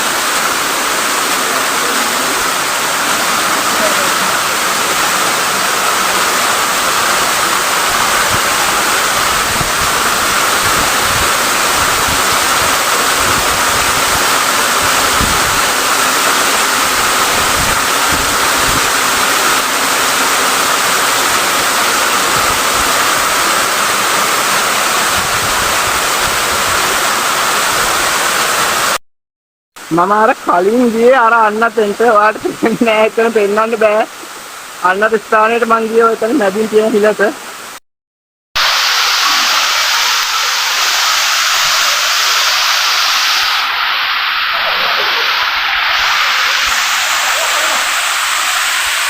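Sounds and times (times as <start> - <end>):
waterfall rushing: 0.0 - 29.0, 29.8 - 37.8, 38.6 - 49.0.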